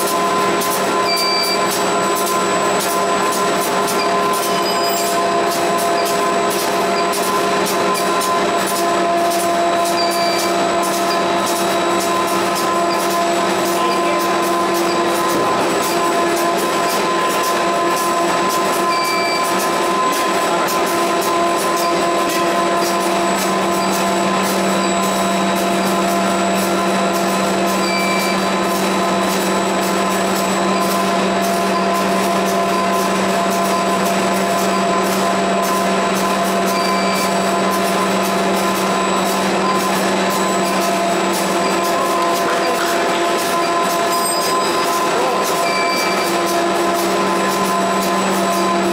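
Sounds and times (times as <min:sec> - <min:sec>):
printing press whirring: 0:00.0 - 0:48.9.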